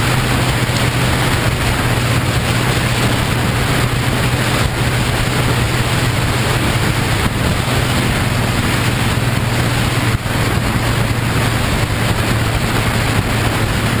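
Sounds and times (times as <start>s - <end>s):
motorcycle engine drone: 0.0s - 14.0s
wind rushing over microphone: 0.0s - 14.0s.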